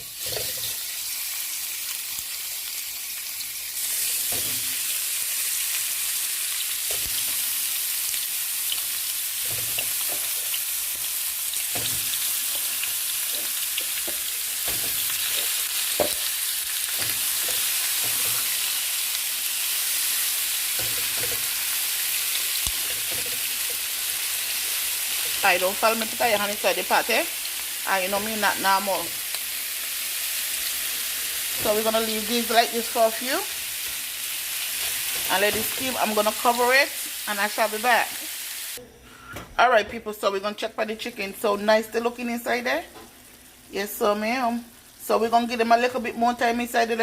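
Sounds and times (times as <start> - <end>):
chicken frying in hot oil: 0.0 - 38.8.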